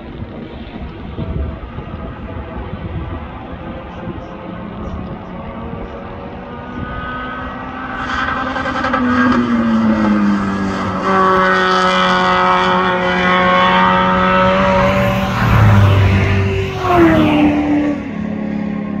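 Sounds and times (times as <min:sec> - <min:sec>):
race car engine at high revs: 0:00.5 - 0:19.0.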